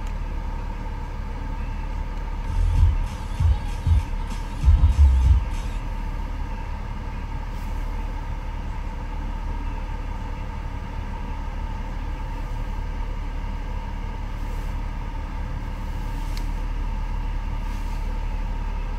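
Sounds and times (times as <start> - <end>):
car engine idling: 0.0 - 18.9
constant hum: 0.0 - 18.9.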